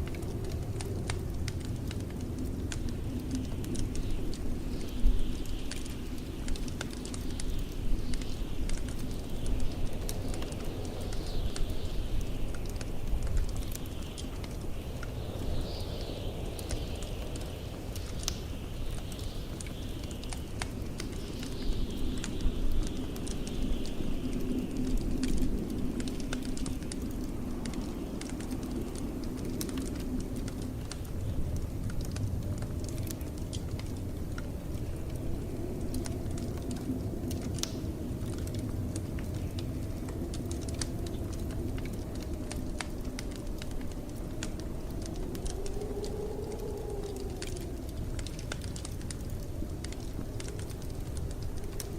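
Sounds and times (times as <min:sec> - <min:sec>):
blizzard wind rumble and hiss: 0:00.0 - 0:51.9
low wind howl: 0:00.0 - 0:51.9
wood fire crackling: 0:00.0 - 0:51.9.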